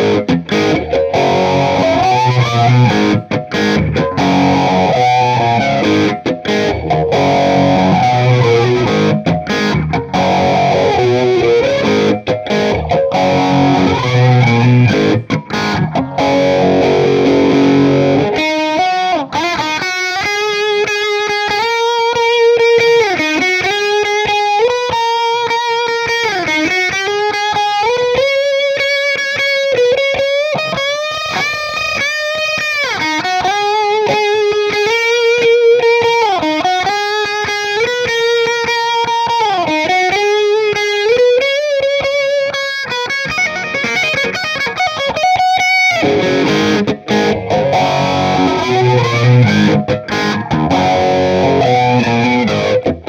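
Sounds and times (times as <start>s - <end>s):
distorted electric guitar: 0.0s - 53.0s.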